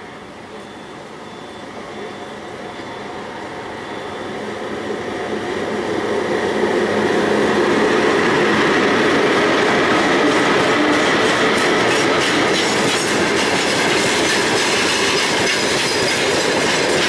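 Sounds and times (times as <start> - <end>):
locomotive running noise: 0.0 - 17.0
train wheels rumbling on rails: 1.6 - 17.0.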